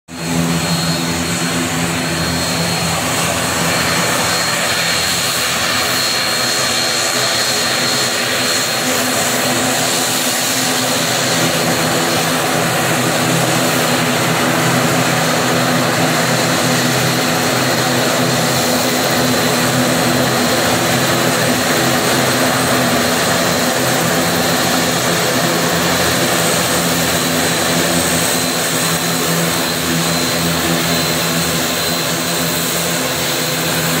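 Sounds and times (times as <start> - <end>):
high engine whine: 0.1 - 34.0
turboprop propeller drone: 0.1 - 34.0.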